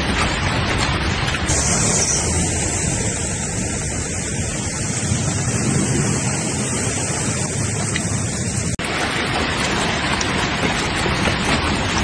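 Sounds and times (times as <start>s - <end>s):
heavy rain and hail: 0.0s - 12.0s.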